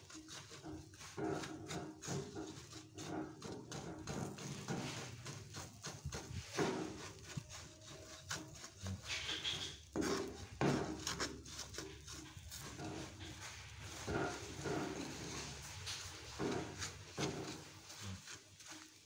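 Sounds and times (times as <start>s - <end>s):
wooden spatula scraping frying pan: 0.0s - 19.0s.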